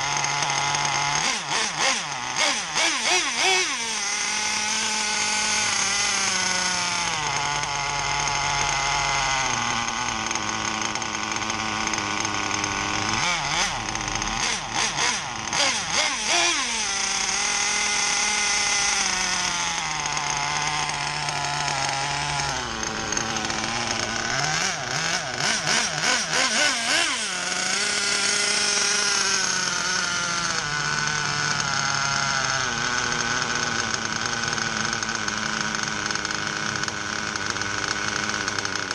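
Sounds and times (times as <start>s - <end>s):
nitro engine revving: 0.0s - 38.9s.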